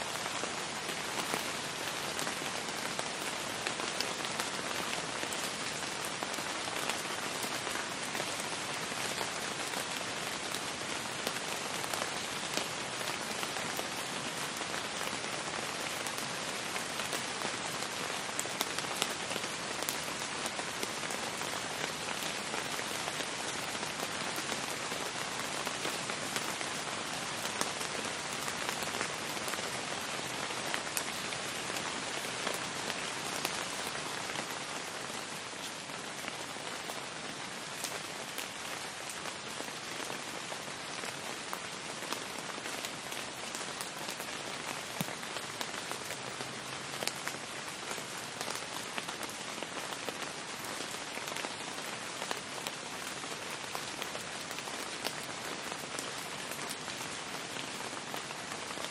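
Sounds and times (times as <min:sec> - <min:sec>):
steady rain hiss: 0:00.0 - 0:58.9
raindrops ticking on hard surfaces: 0:00.1 - 0:58.9.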